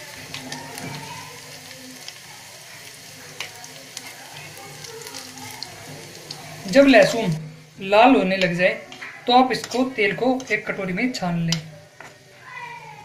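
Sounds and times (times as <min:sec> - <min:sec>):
spoon stirring in pan: 0:00.0 - 0:07.5, 0:08.1 - 0:12.4
garlic sizzling in oil: 0:00.0 - 0:13.0.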